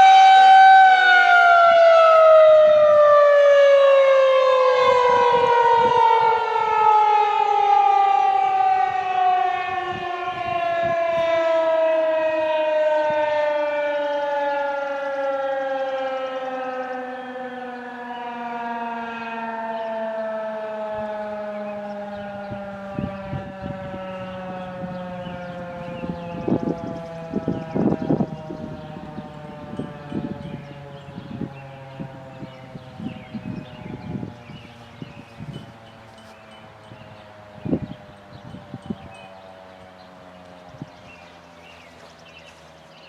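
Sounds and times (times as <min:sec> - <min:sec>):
warning siren winding down: 0:00.0 - 0:43.0.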